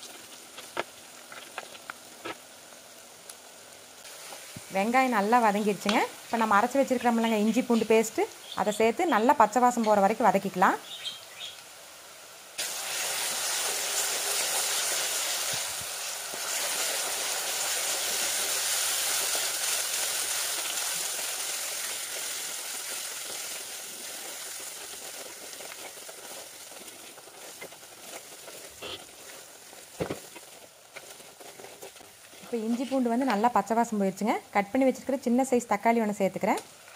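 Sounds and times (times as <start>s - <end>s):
paste sizzling in hot oil: 0.0s - 35.8s.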